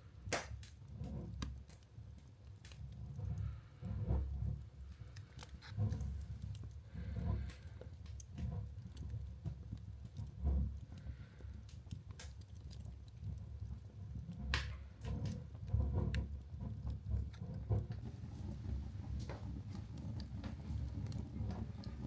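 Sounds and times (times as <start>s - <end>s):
fire crackling and popping: 0.1s - 22.0s.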